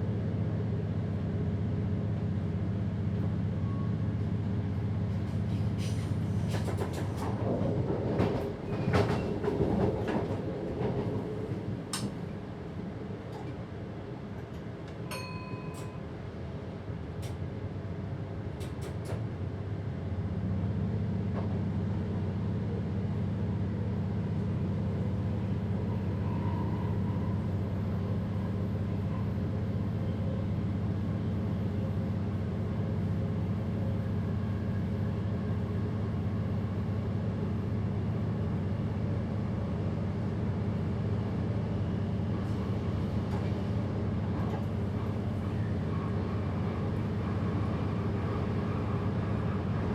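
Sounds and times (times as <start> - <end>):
train running hum: 0.0 - 49.9.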